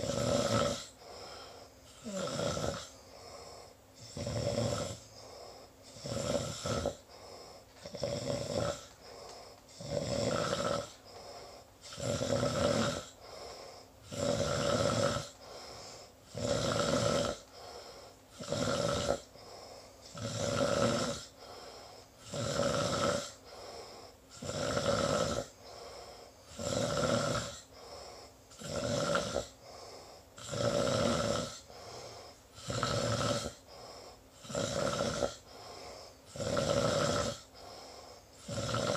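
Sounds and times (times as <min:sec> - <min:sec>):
person snoring: 0:00.0 - 0:38.9.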